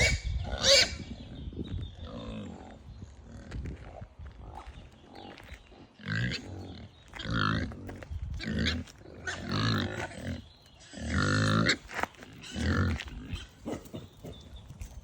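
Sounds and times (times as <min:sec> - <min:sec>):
pigs grunting: 0:00.0 - 0:01.2, 0:02.0 - 0:14.6.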